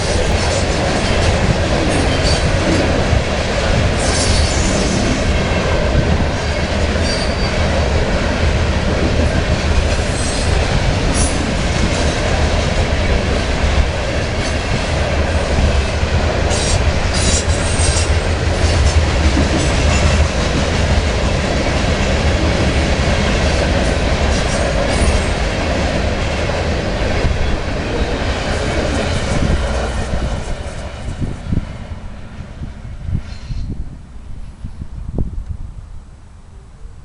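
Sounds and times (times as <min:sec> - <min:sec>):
model train rumbling past: 0:00.0 - 0:34.8.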